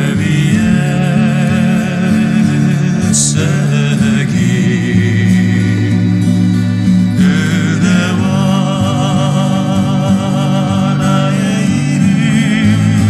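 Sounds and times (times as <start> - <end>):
low held chords: 0.0 - 13.0
person singing with vibrato: 0.0 - 13.0.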